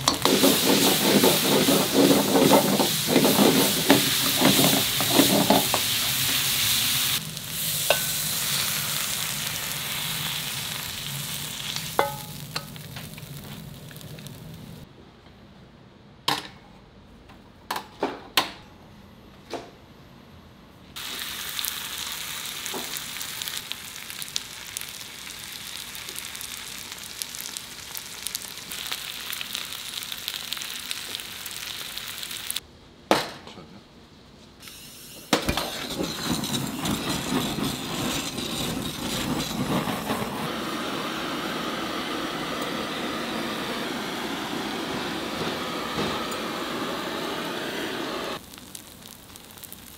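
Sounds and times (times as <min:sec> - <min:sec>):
meat sizzling: 0:00.0 - 0:14.8, 0:21.0 - 0:32.6, 0:35.9 - 0:49.9.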